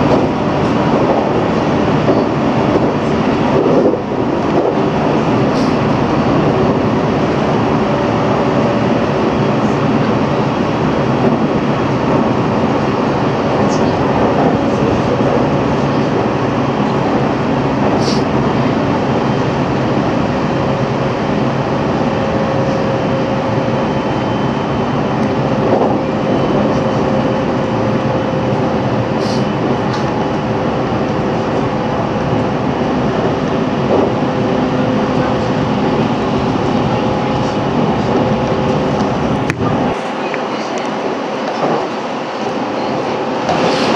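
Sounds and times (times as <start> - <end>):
train motor hum: 0.0 - 43.9
train wheels rumbling on rail: 0.0 - 43.9.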